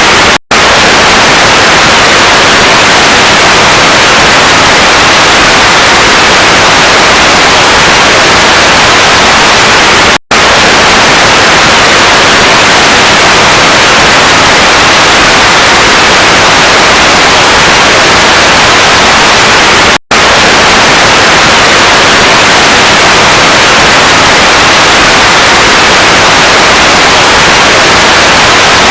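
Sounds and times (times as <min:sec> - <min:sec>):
loud static hiss: 0:00.0 - 0:28.9.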